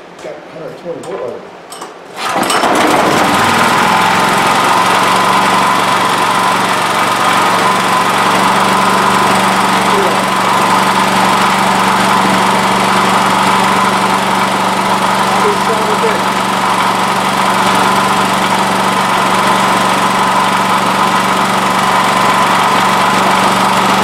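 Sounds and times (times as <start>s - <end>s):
generator engine starting and running: 2.0s - 24.0s.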